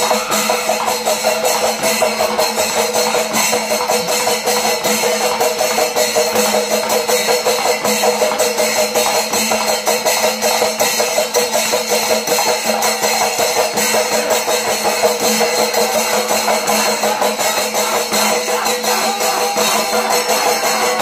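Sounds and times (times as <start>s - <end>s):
fast drumming: 0.0s - 21.0s
hand cymbals: 0.0s - 21.0s.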